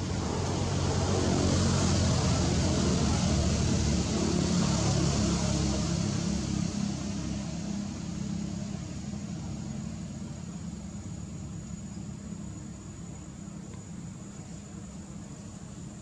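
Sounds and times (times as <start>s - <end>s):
engine rumble with low hum: 0.0s - 16.0s.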